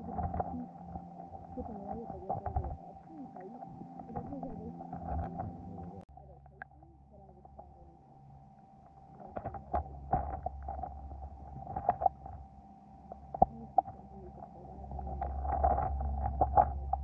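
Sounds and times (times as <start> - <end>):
thin steady hum: 0.0 - 17.0
underwater rumble of flowing water: 0.0 - 17.0.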